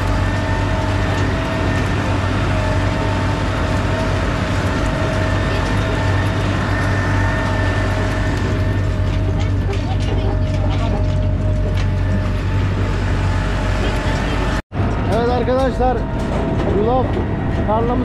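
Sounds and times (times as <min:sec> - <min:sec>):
steady whine: 0:00.0 - 0:18.0
tractor engine drone: 0:00.0 - 0:18.0.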